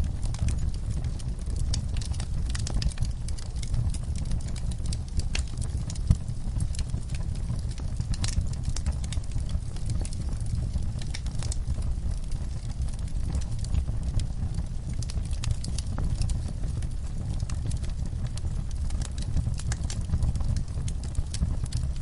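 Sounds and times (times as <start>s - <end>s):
logs crackling and popping: 0.0s - 22.0s
low rumble of flame: 0.0s - 22.0s.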